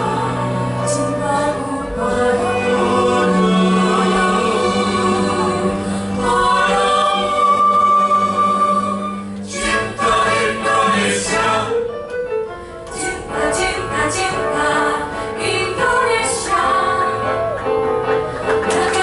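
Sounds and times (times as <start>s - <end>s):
mixed choir singing: 0.0s - 11.9s, 12.9s - 19.0s.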